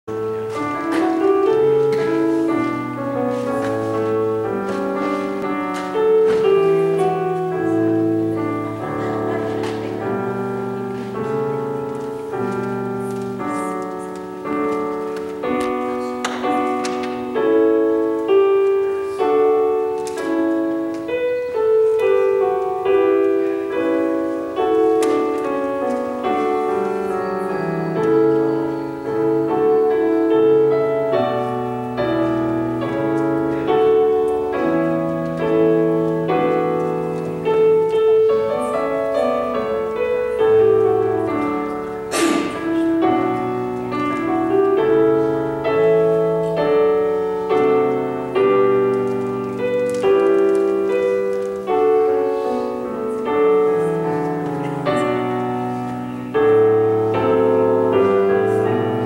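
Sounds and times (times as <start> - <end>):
slow solo piano: 0.0 - 59.0.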